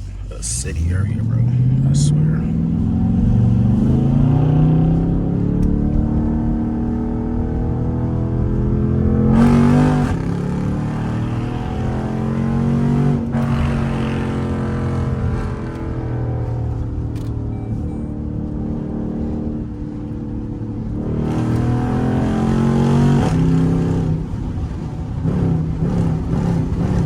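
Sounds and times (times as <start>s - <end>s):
engine accelerating: 0.0s - 27.0s.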